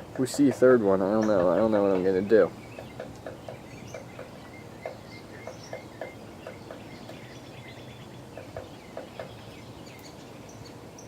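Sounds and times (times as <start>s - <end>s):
woodpecker tapping on wood: 0.0s - 7.4s, 8.3s - 10.1s.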